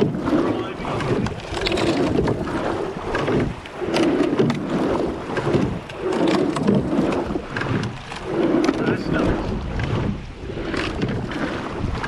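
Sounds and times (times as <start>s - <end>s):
oar blades pulling through water: 0.0s - 12.0s
oarlocks clunking: 0.0s - 12.0s
water rushing along hull: 0.0s - 12.0s.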